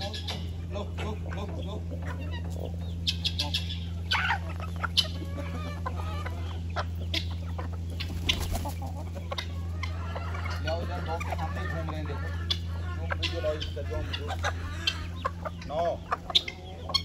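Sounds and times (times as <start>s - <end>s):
chickens clucking: 0.0s - 17.0s
sharp chicken calls: 0.0s - 17.0s
steady low hum: 0.0s - 17.0s.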